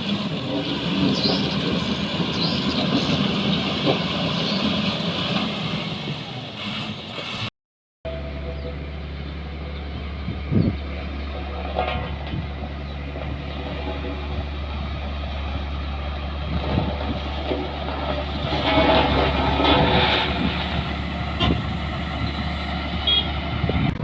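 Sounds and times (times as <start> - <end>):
heavy machinery engine drone: 0.0 - 7.5, 8.1 - 24.0.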